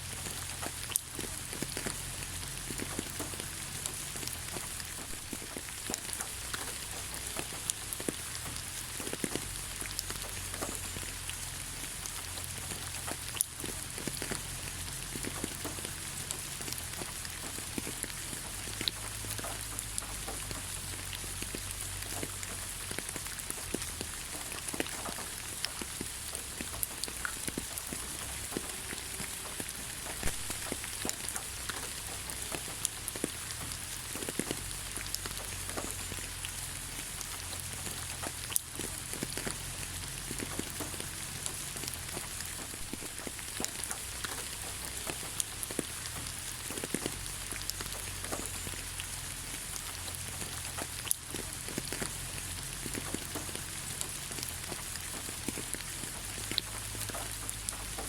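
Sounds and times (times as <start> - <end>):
rain hissing on ground: 0.0 - 58.0
raindrop ticks: 0.0 - 58.0.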